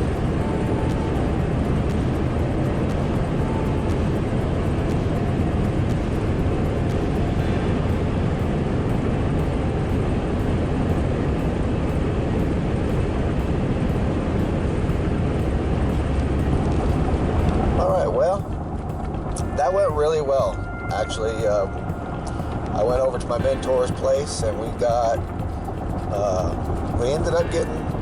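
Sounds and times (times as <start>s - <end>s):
road and engine noise in truck cabin: 0.0s - 28.0s.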